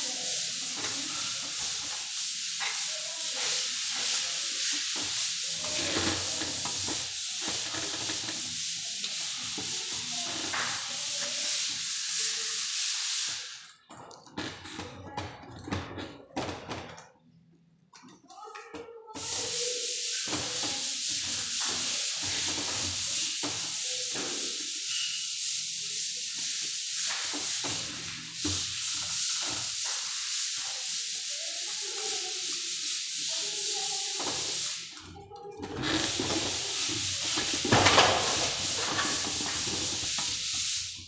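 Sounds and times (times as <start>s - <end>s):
tool scraping plaster ceiling: 0.1s - 13.5s, 19.1s - 35.0s, 35.7s - 41.0s.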